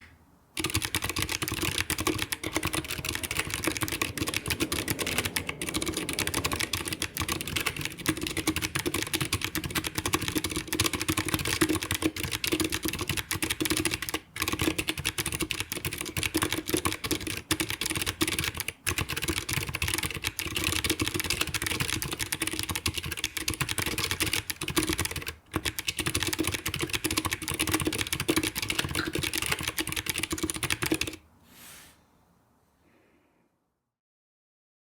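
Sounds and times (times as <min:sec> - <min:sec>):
typing on mechanical keyboard: 0:00.6 - 0:31.2.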